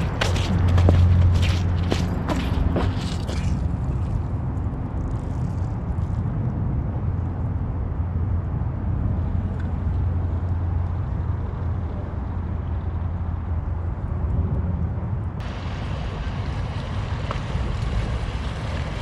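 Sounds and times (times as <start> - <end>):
distant traffic rumble: 0.0 - 19.0.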